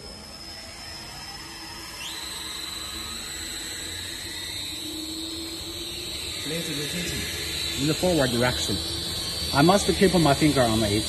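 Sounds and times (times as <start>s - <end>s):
electric motor humming and whining: 0.0s - 11.0s.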